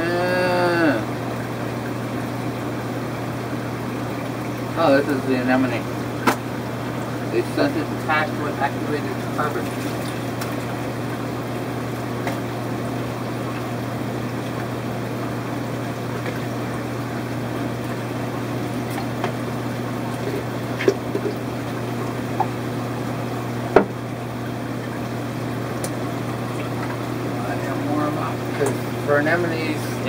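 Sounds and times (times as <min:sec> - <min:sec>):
aquarium pumps humming: 0:00.0 - 0:30.0.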